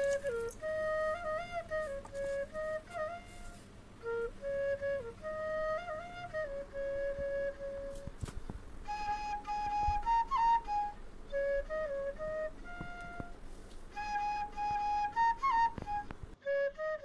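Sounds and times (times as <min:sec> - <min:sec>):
solo flute slow melody: 0:00.0 - 0:17.0.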